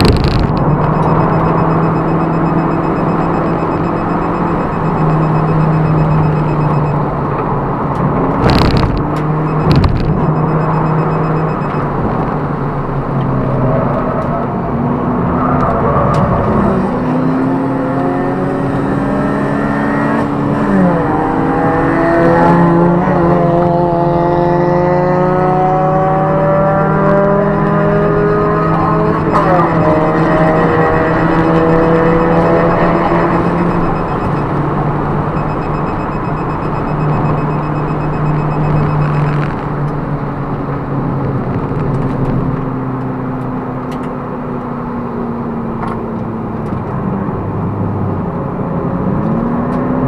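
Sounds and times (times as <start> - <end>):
race car engine under load: 0.0 - 50.0.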